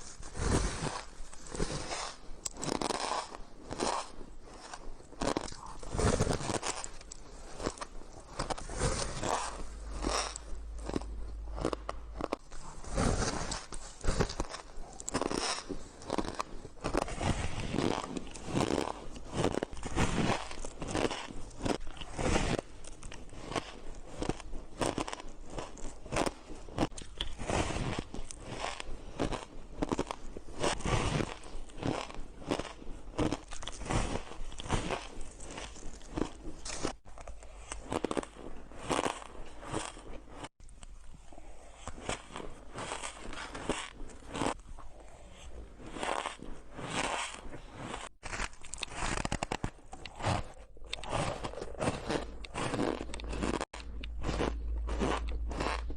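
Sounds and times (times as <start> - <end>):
shaved ice being chewed: 0.1 - 55.9.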